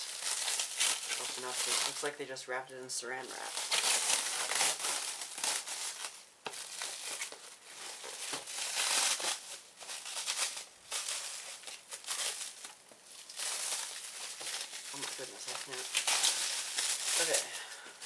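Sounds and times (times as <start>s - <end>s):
plastic wrap crinkling: 0.0s - 18.0s.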